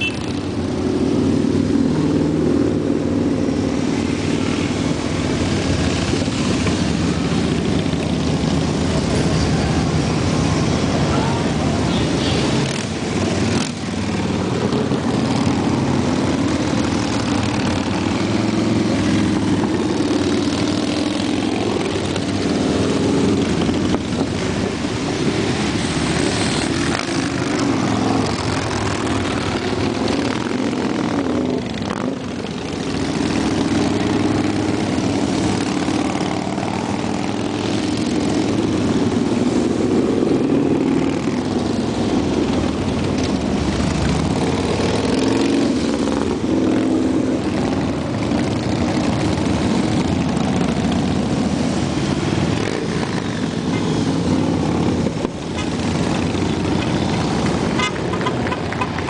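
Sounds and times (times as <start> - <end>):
motorcycles riding past: 0.0 - 59.0.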